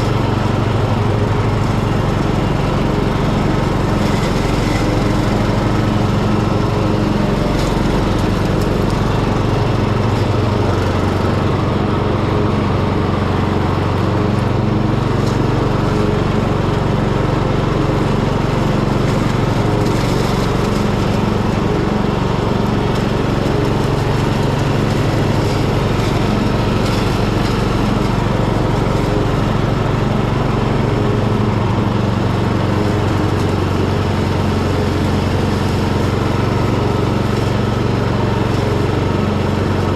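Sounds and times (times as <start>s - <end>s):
mower deck cutting grass: 0.0s - 39.9s
ride-on mower engine running: 0.0s - 39.9s.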